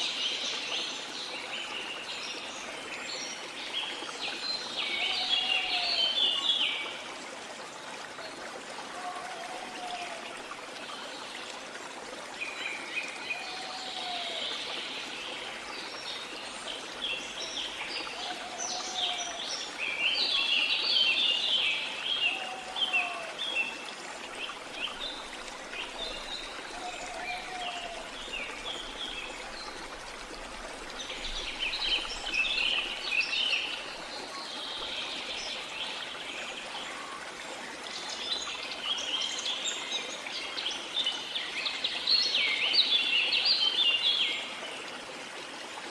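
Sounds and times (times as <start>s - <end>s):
flowing water: 0.0s - 45.9s.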